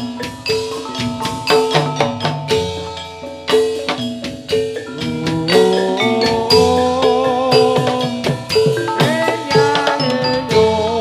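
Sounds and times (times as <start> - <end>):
bronze metallophone notes: 0.0 - 11.0
drum strokes: 0.0 - 11.0.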